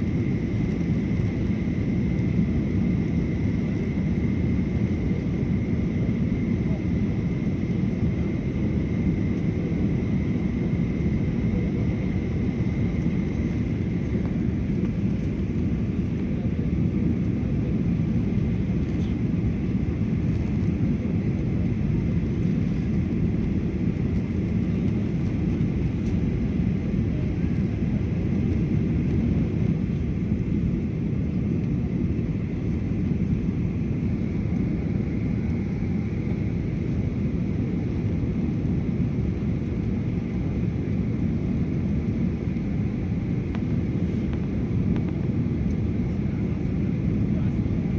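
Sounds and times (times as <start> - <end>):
airliner cabin rumble: 0.0 - 47.9
faint steady whine: 0.0 - 47.9.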